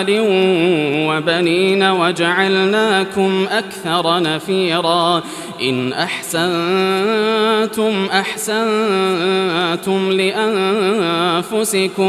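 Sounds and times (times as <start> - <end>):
man reciting in melodic style: 0.0 - 12.0.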